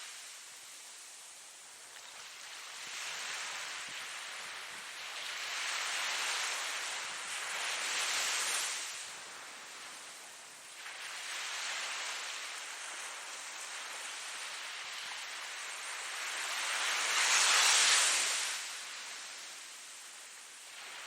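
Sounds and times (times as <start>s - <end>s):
waves breaking on shore: 0.0s - 21.0s.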